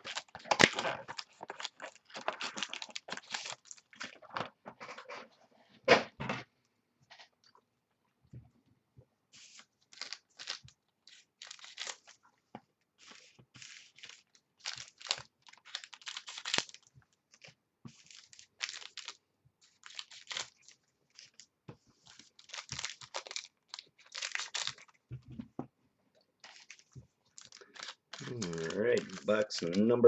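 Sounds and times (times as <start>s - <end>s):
plastic and foil wrapping crinkling: 0.0s - 5.4s, 9.4s - 12.3s, 13.0s - 25.5s, 26.4s - 30.0s.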